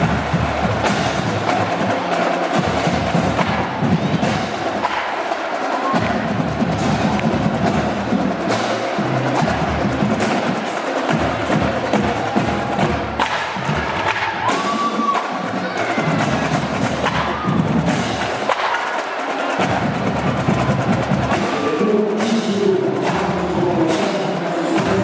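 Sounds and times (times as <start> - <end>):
low drum beats: 0.0 - 18.8, 19.5 - 25.0
marching drum cadence: 0.0 - 25.0
sharp clicking drum strokes: 0.0 - 25.0.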